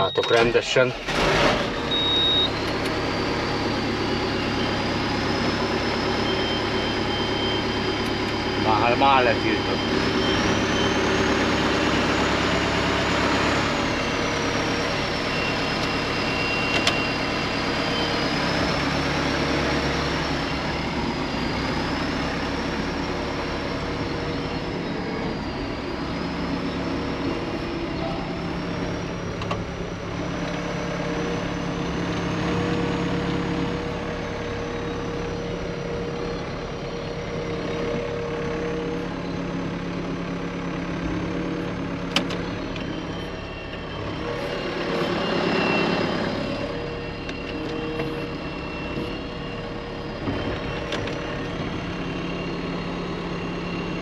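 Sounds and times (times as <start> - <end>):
engine running steadily: 0.0 - 54.0
high whine: 0.0 - 54.0.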